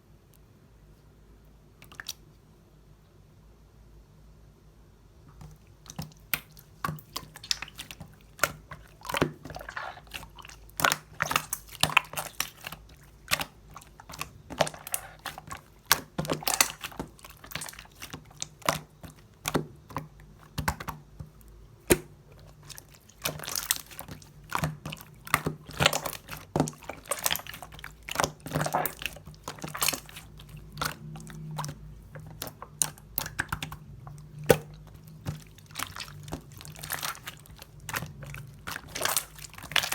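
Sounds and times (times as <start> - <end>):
slime squished by hand: 5.4 - 39.9.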